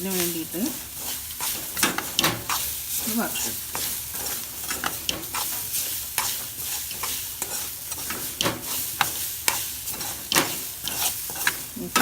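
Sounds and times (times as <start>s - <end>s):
food sizzling in a pan: 0.0s - 12.0s
utensil stirring and scraping pan: 0.0s - 12.0s.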